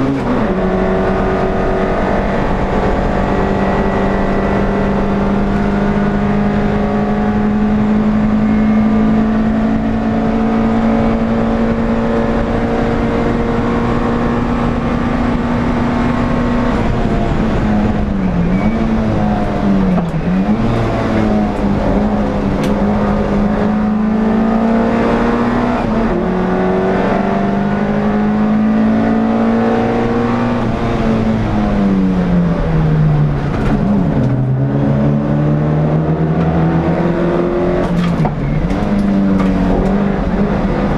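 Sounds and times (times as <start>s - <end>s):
race car engine at high revs: 0.0s - 40.9s
wind and road noise: 0.0s - 40.9s.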